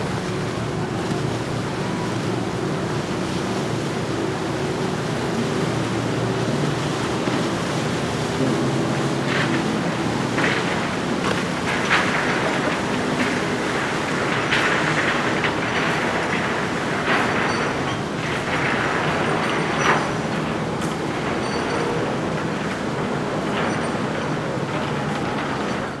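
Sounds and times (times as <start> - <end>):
powerboat engines rumbling: 0.0 - 26.0
water rushing around hulls: 0.0 - 26.0.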